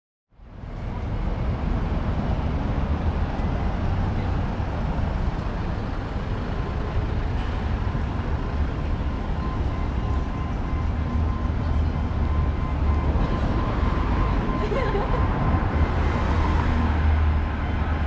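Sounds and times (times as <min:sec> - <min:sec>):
road traffic rumble: 0:00.3 - 0:18.0.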